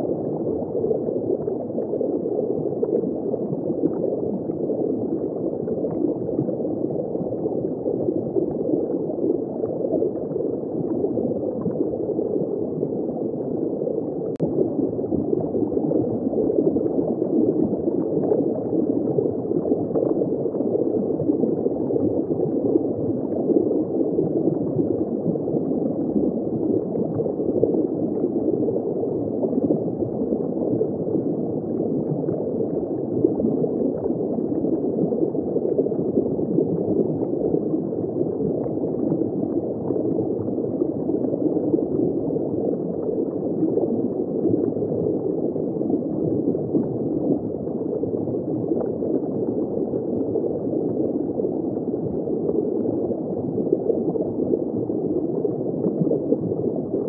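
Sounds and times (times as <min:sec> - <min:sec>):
water gurgling in aquarium: 0:00.0 - 0:57.0.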